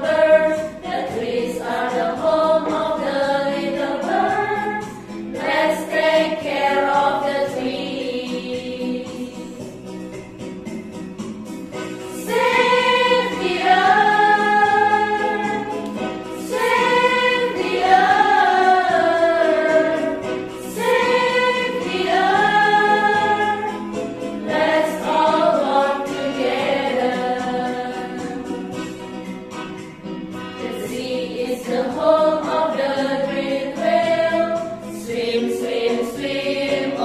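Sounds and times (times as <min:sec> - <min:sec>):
choir singing: 0:00.0 - 0:09.5, 0:12.1 - 0:28.8, 0:30.6 - 0:37.0
soft musical backing: 0:00.0 - 0:37.0.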